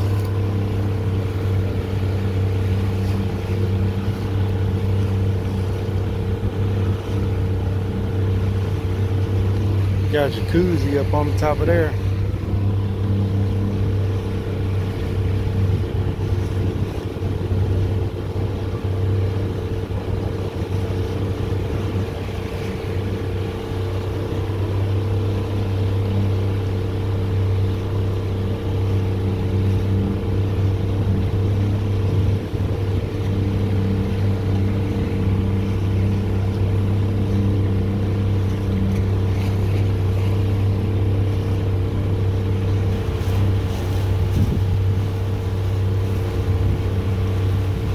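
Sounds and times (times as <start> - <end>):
motorboat engine humming: 0.0 - 47.9.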